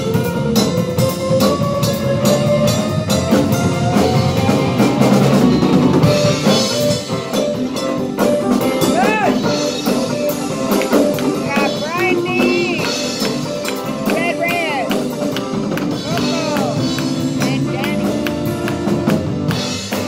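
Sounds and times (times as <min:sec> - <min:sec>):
drum kit steady beat: 0:00.0 - 0:20.0
electric and acoustic guitars: 0:00.0 - 0:20.0.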